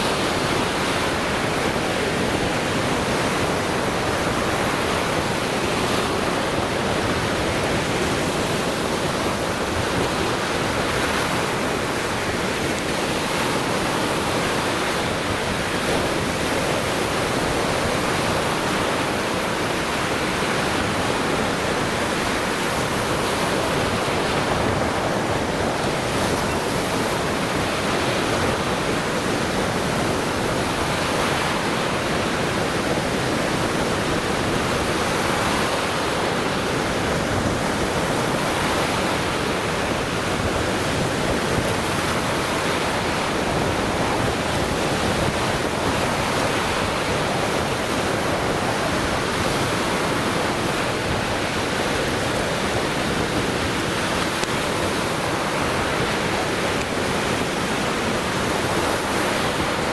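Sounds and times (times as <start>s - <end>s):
surf breaking on shore: 0.0s - 59.9s.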